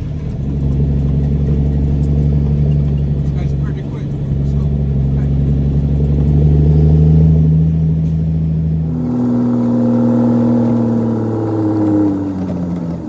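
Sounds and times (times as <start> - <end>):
truck diesel engine under load: 0.0 - 13.0.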